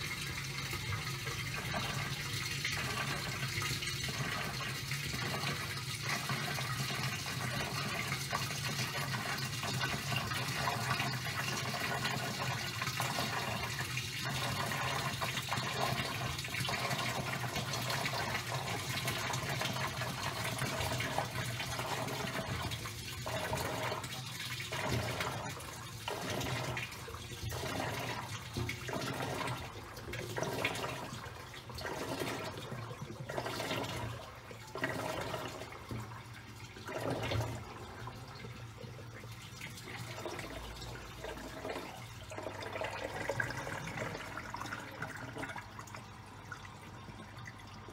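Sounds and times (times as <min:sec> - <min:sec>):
washing machine motor hum: 0:00.0 - 0:47.9
water churning and sloshing: 0:00.0 - 0:47.9.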